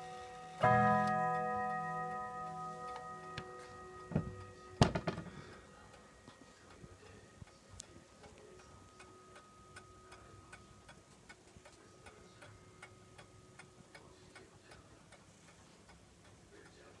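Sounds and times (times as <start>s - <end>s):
clock ticking faintly: 0.0s - 17.0s.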